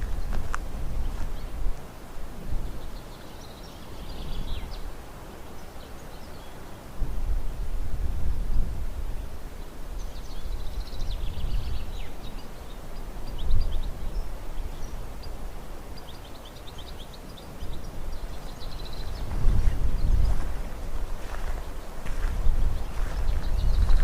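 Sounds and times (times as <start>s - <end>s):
songbirds chirping: 0.0s - 7.0s, 8.2s - 24.0s.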